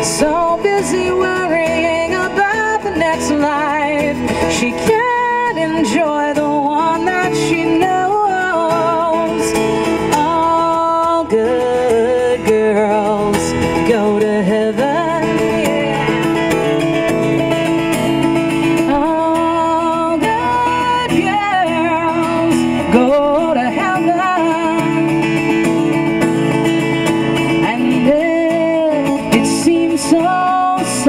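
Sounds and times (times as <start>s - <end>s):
strummed guitar: 0.0s - 31.0s.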